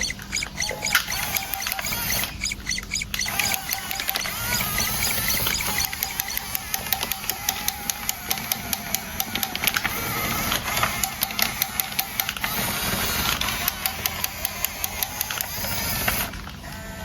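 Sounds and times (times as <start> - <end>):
mechanical clicking: 0.0 - 17.0.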